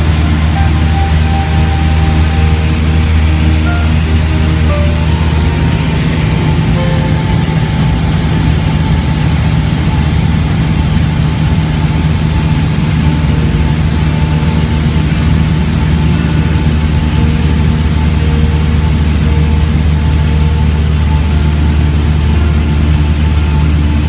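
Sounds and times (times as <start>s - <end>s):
propeller plane engine drone: 0.0s - 24.0s.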